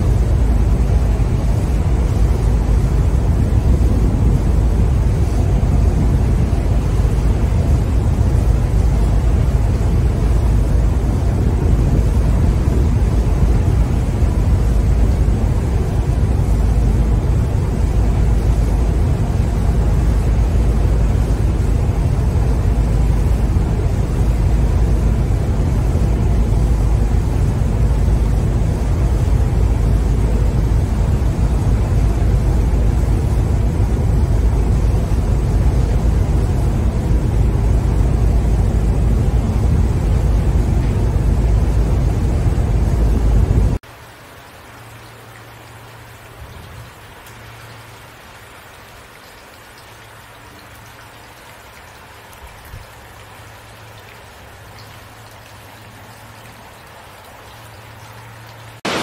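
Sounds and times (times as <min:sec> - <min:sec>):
sea water churning: 0:00.0 - 0:43.9, 0:52.7 - 0:59.0.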